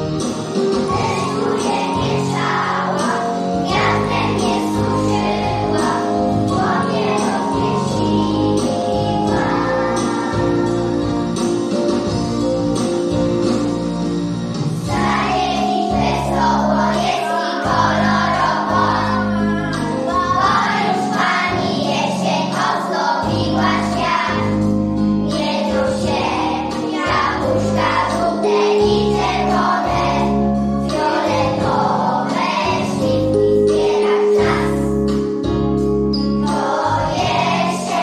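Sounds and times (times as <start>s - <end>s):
musical accompaniment with bass line: 0.0s - 38.0s
children singing together: 0.8s - 11.4s, 14.9s - 35.2s, 36.4s - 38.0s.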